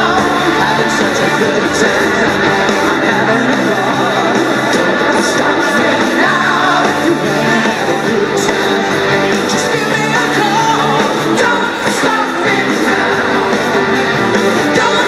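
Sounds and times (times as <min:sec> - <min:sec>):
rock and roll song with vocals: 0:00.0 - 0:15.0.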